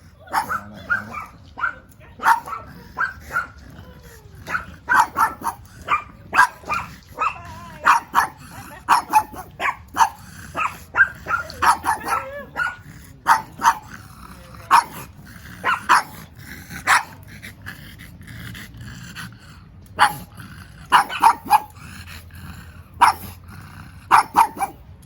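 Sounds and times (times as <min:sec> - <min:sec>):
dog barking and growling: 0:00.0 - 0:25.0.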